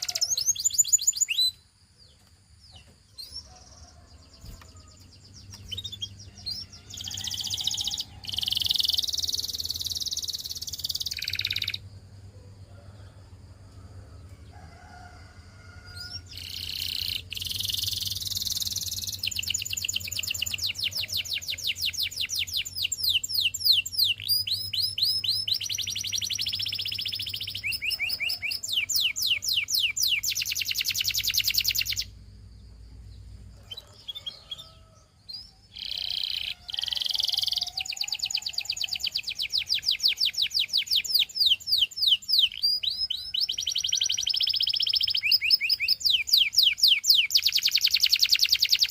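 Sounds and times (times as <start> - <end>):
canary singing trills: 0.0 - 11.9, 15.8 - 32.2, 33.0 - 48.9.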